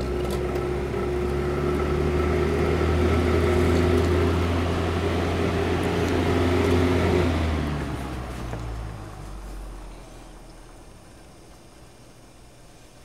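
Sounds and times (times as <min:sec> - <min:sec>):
fan blades whooshing: 0:00.0 - 0:13.0
fan motor hum: 0:00.0 - 0:13.0.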